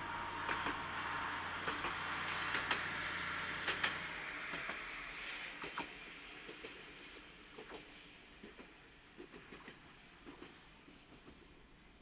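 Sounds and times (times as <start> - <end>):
wheels clicking on rails: 0.0 - 6.9, 7.5 - 11.6
diesel railcar engine drone: 0.0 - 12.0.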